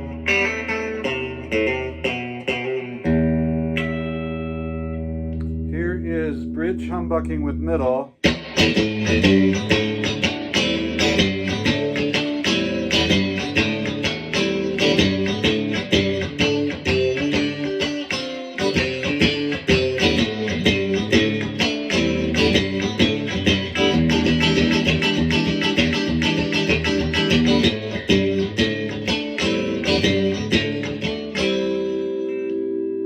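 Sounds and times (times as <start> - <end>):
electric guitar through amp: 0.0 - 33.0.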